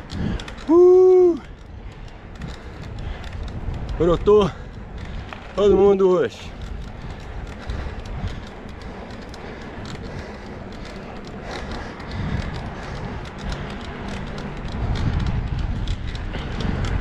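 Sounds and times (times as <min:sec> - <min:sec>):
bike clicks and rattles: 0:00.0 - 0:17.0
bike rolling rumble: 0:00.0 - 0:17.0.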